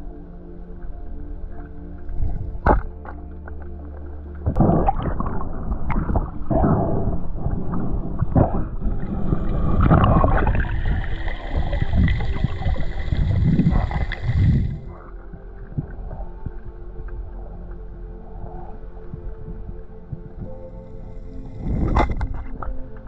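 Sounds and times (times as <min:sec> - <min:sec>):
muffled underwater rushing water: 0:00.0 - 0:23.0.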